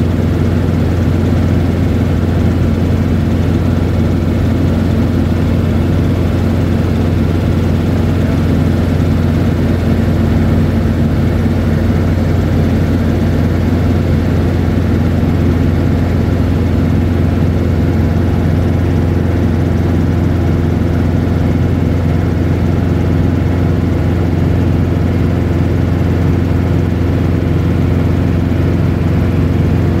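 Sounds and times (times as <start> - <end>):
helicopter engine and rotor drone: 0.0 - 30.0.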